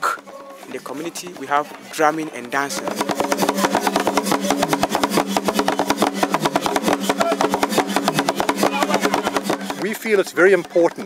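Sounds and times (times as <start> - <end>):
fast wooden drumming: 0.0 - 11.0.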